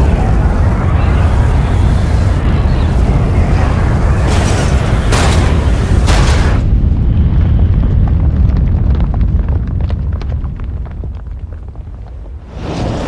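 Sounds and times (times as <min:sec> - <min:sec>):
heavy explosion blast: 0:00.0 - 0:11.2, 0:12.4 - 0:13.0
debris crackling: 0:00.0 - 0:13.0
deep rumble: 0:00.0 - 0:13.0.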